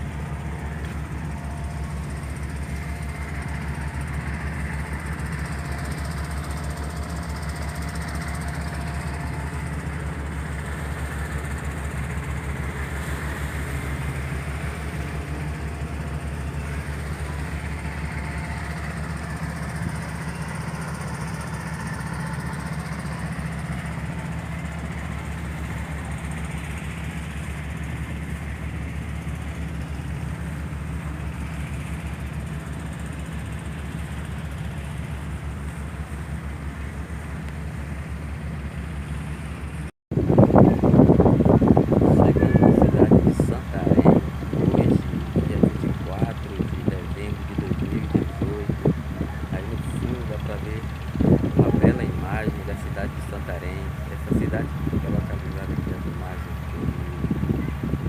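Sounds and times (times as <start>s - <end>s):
boat diesel engine droning: 0.0s - 58.0s.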